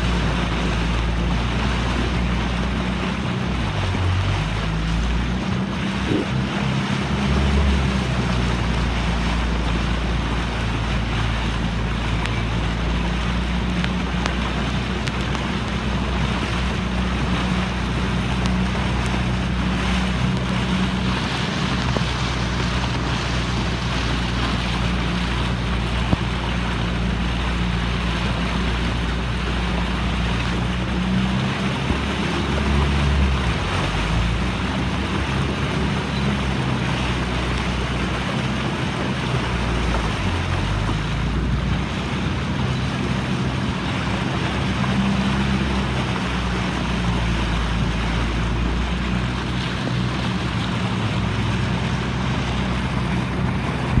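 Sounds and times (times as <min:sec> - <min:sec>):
boat motor running: 0:00.0 - 0:54.0
water rushing past hull: 0:00.0 - 0:54.0
wind buffeting microphone: 0:00.0 - 0:54.0.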